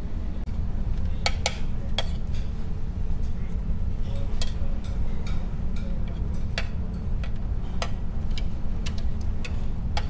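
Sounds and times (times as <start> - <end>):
low rumble of ship engines: 0.0 - 10.0.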